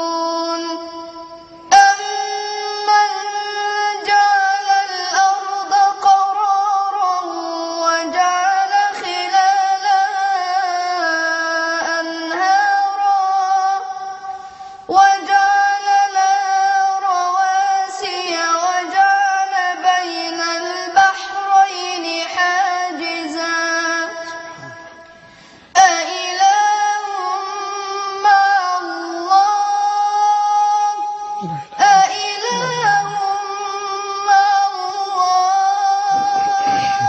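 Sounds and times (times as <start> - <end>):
boy reciting melodically: 0.0 - 37.0.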